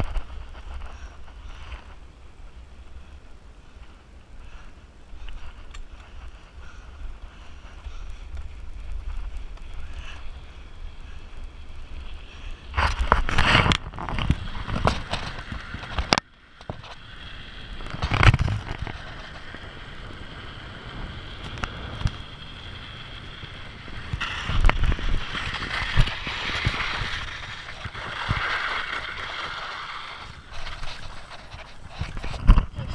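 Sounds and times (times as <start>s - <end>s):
wind and riding noise: 0.0s - 32.9s.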